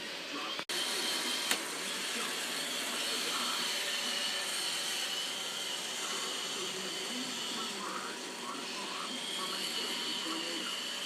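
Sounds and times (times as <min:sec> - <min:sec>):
robot vacuum whirring: 0:00.3 - 0:11.0.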